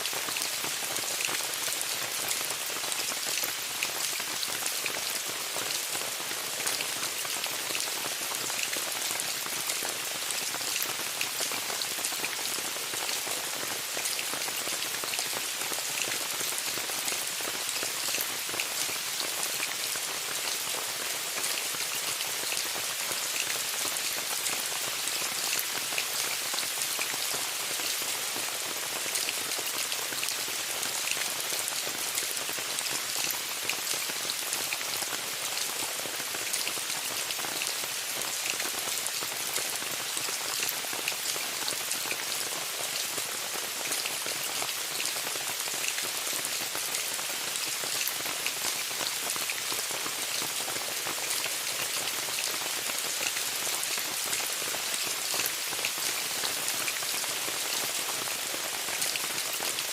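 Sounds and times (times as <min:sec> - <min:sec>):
rain falling on a tent: 0:00.0 - 0:59.9.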